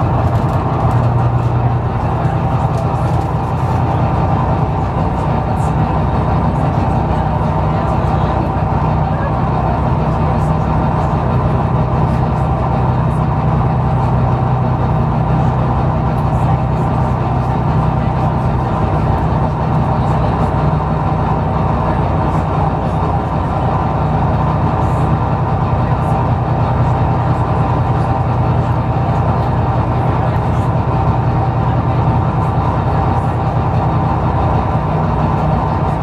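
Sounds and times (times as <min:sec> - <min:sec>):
bus diesel engine running: 0:00.0 - 0:36.0
road noise: 0:00.0 - 0:36.0.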